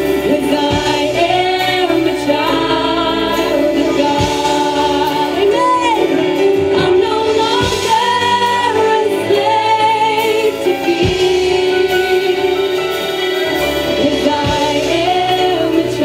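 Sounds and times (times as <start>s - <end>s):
women singing worship song: 0.0s - 16.0s.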